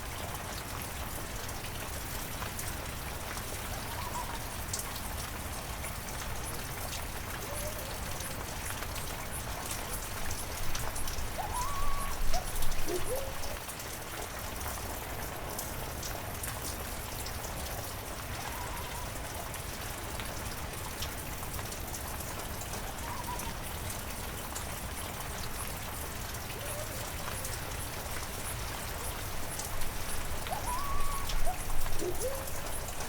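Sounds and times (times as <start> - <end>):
heavy rain falling: 0.0 - 33.0
raindrops ticking: 0.0 - 33.0.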